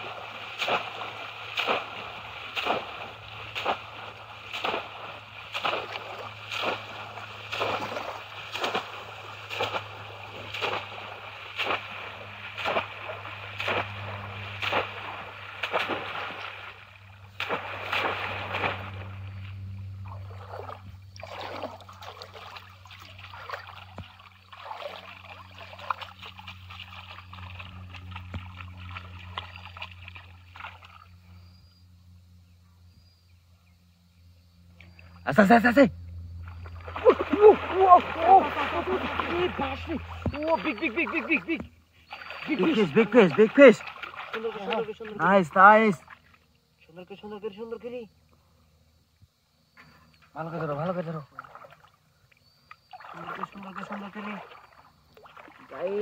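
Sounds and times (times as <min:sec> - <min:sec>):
fish traps splashing in water: 0:00.0 - 0:31.5, 0:36.2 - 0:46.5, 0:50.4 - 0:56.0
water sloshing: 0:00.0 - 0:31.5, 0:36.0 - 0:47.2, 0:49.8 - 0:56.0.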